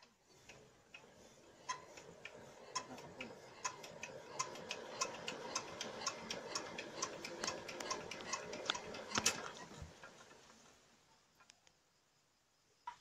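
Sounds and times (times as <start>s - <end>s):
wheel machine clicking: 0.0s - 10.8s.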